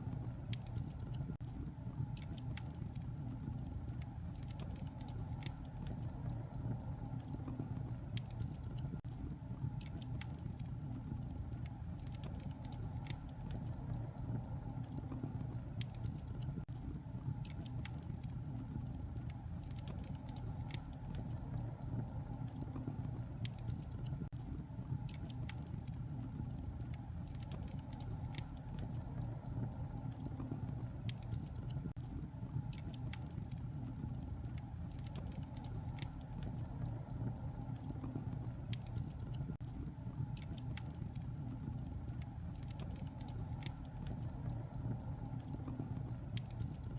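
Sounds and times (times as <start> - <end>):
fire crackling and popping: 0.0 - 46.9
fire rumbling: 0.0 - 46.9.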